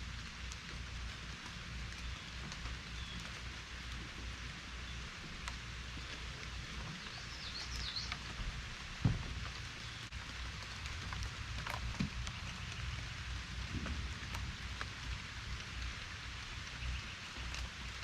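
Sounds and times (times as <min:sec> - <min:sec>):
low rumble: 0:00.0 - 0:18.0
rain hissing: 0:00.0 - 0:18.0
raindrop ticks: 0:00.0 - 0:18.0.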